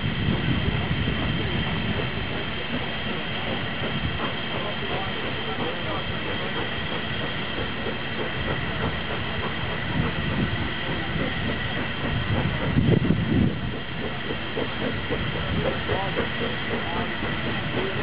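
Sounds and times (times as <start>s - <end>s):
steam train rumbling: 0.0s - 18.0s.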